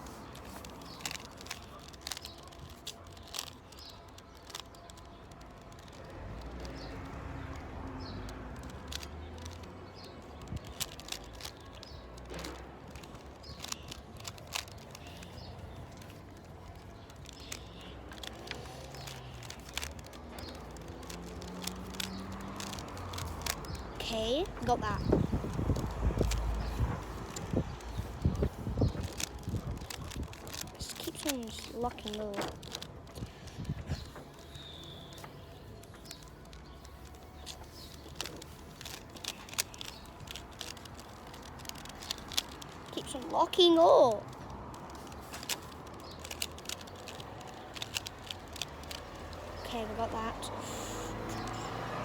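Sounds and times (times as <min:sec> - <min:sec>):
puzzle cube plastic clicks: 0:00.0 - 0:52.0.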